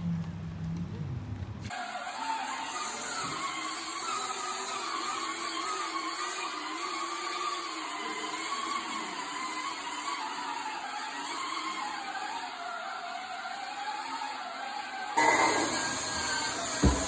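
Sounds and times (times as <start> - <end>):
small electric motor whirring: 1.7 - 17.0.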